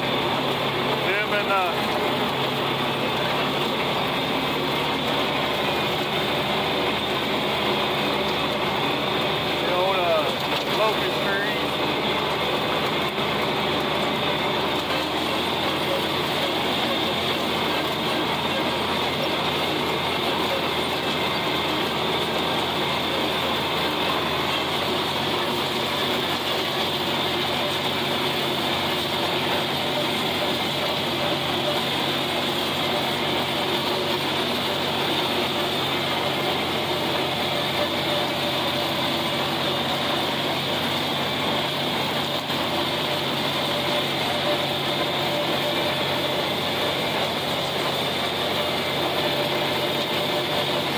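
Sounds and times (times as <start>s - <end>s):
tractor engine running under load: 0.0s - 50.9s.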